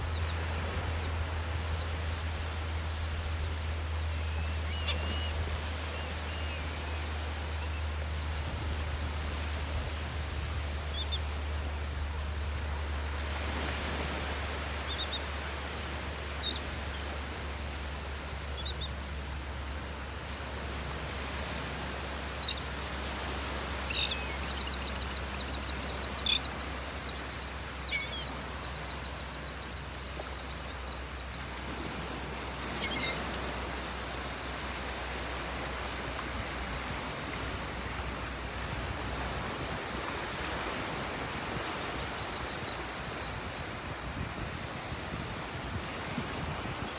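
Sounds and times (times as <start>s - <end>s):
small waves washing onto beach: 0.0s - 46.9s.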